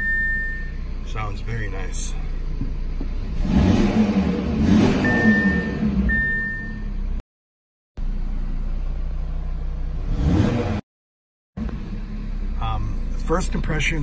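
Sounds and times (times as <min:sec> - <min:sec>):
car engine idling: 0:00.0 - 0:07.2, 0:08.0 - 0:10.2, 0:11.6 - 0:14.0.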